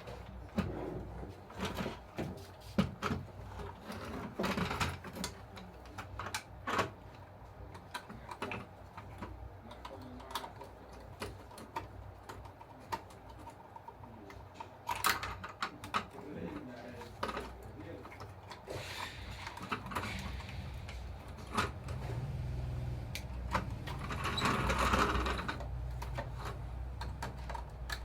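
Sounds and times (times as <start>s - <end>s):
small parts clicking and tapping: 1.6s - 28.0s.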